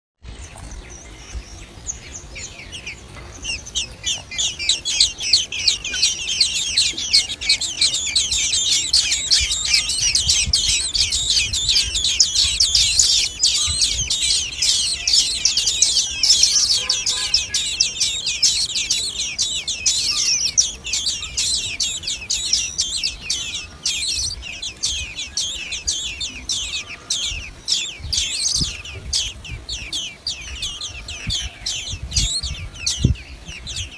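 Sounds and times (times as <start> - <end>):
nestlings begging chirps: 0.3 - 33.9.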